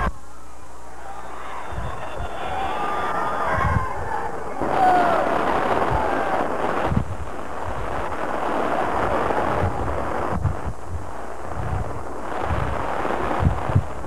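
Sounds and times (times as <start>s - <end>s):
wind buffeting microphone: 1.6s - 14.0s.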